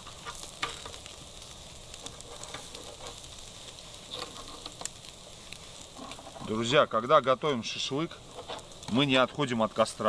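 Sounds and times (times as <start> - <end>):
crackles and pops: 0.0 - 10.0
meat sizzling over fire: 0.0 - 10.0.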